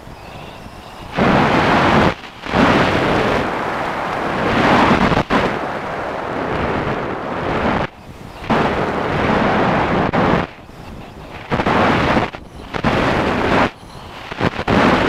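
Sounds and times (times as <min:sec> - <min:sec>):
propeller noise: 0:00.0 - 0:15.0
wind buffeting microphone: 0:00.0 - 0:15.0.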